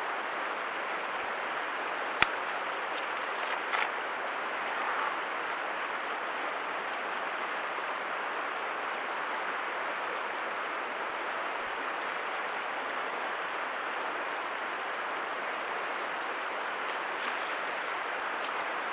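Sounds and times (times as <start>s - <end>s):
stream water rushing: 0.5s - 6.0s, 6.6s - 18.9s.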